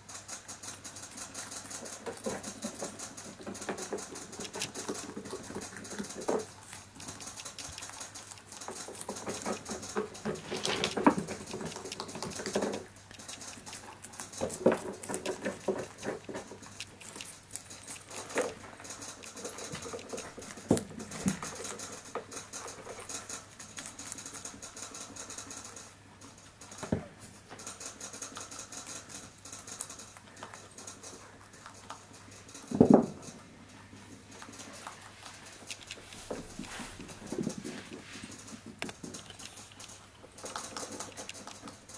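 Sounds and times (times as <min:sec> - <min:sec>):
rabbits chewing: 0:00.0 - 0:41.9.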